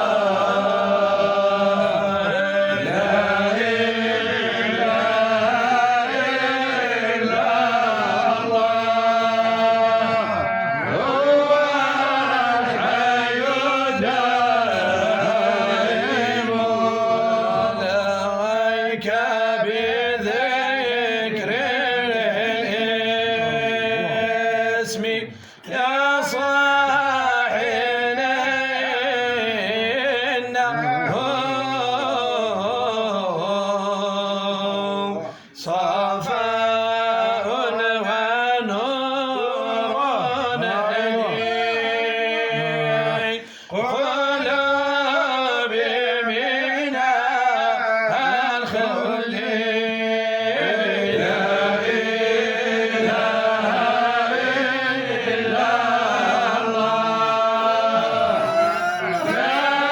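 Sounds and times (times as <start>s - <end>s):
man chanting melodically: 0.0s - 59.9s.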